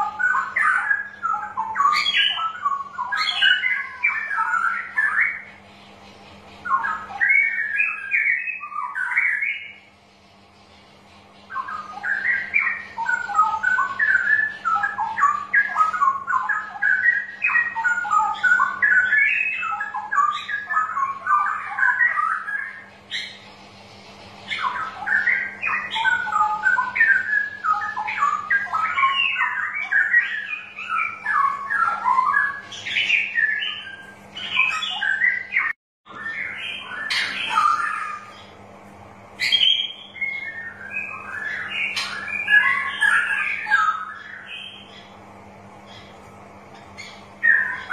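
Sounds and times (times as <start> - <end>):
bird singing whistled notes: 0.0 - 5.6, 6.6 - 9.9, 11.4 - 23.4, 24.5 - 38.5, 39.4 - 45.1, 47.0 - 47.9
steady low hum: 0.0 - 47.9.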